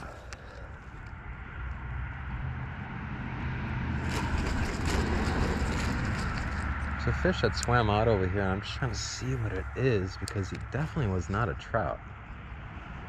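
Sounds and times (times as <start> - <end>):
passing motor vehicle rumble: 0.0 - 13.0.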